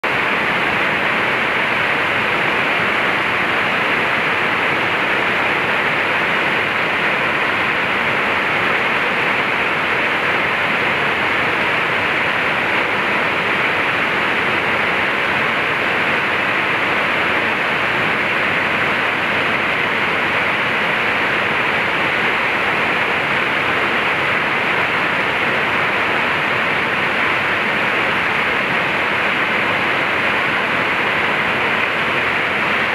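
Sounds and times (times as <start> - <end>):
waterfall rushing into a pool: 0.0 - 32.9.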